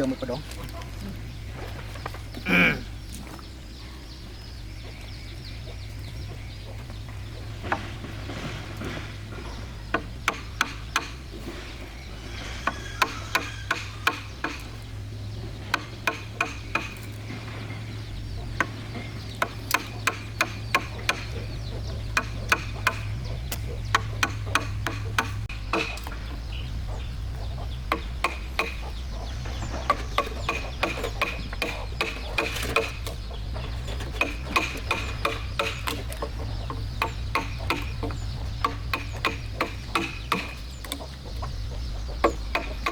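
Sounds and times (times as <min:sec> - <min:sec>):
chickens clucking: 0:00.0 - 0:42.9
steady low hum: 0:00.0 - 0:42.9.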